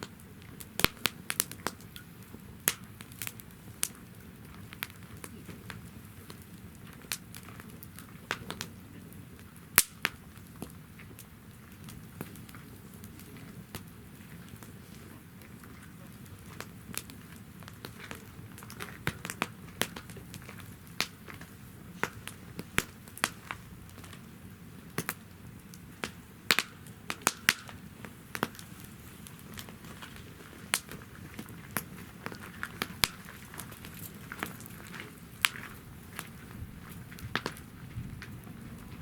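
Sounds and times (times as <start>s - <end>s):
hiss of flames: 0.0s - 39.0s
wood fire crackling and popping: 0.0s - 39.0s.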